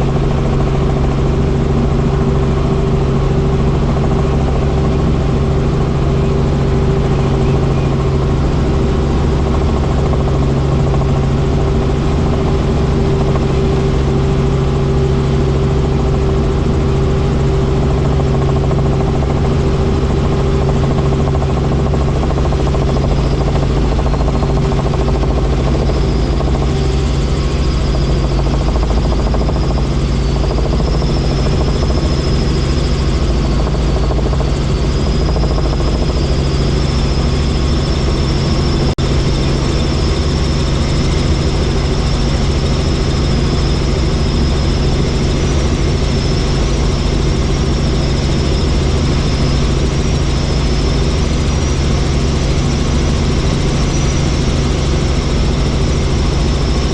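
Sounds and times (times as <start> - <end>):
helicopter turbine and rotor: 0.0 - 56.9.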